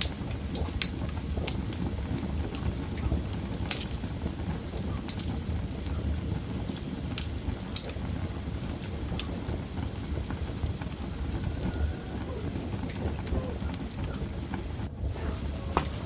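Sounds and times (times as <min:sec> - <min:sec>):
fire crackles and pops: 0:00.0 - 0:16.0
fire flame rushing: 0:00.0 - 0:16.0.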